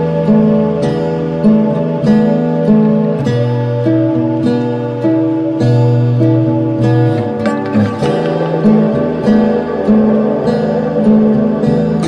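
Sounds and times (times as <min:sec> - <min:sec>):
gentle background melody: 0:00.0 - 0:12.0.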